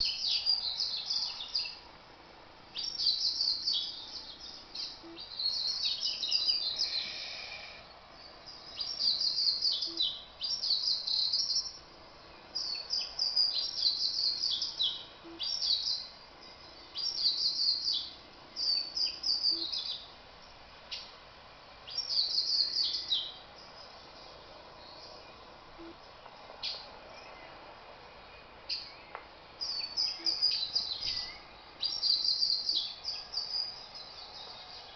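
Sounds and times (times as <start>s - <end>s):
bird twittering song: 0.0s - 1.8s, 2.7s - 21.1s, 21.8s - 27.6s, 28.3s - 34.9s.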